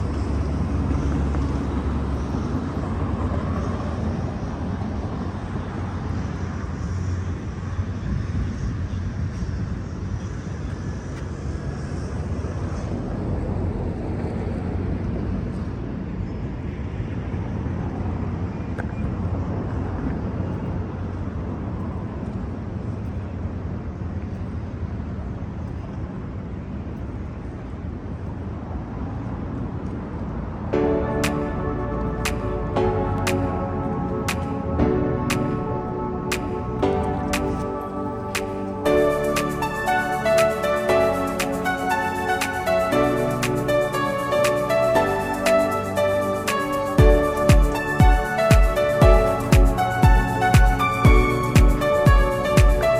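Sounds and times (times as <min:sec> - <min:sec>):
urban background rumble: 0:00.0 - 0:52.9.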